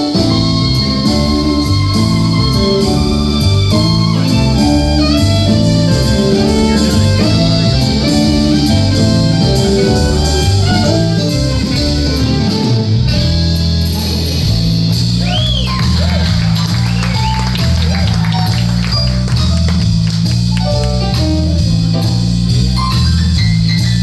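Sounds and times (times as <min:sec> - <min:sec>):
lead guitar: 0:00.0 - 0:22.1
bass line: 0:00.0 - 0:24.0
live blues band: 0:00.0 - 0:24.0.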